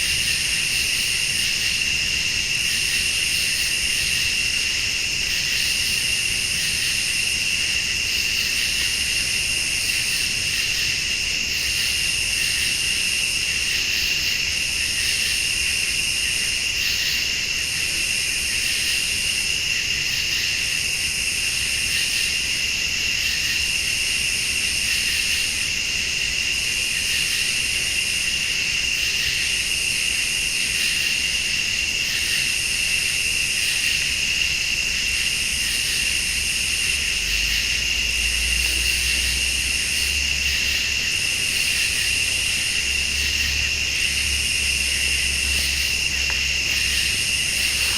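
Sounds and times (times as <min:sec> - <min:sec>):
crickets trilling: 0:00.0 - 0:47.9
high insect buzz: 0:00.0 - 0:47.9.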